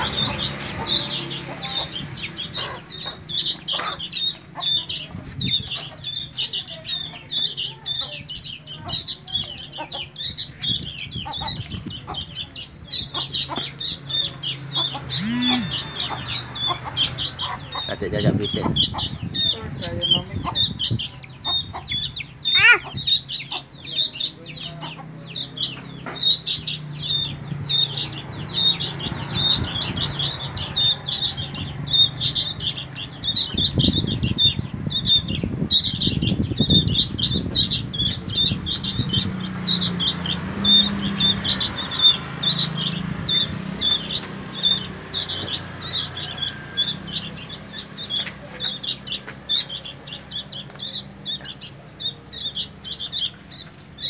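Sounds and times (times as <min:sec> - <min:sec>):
baby birds cheeping: 0:00.0 - 0:54.0.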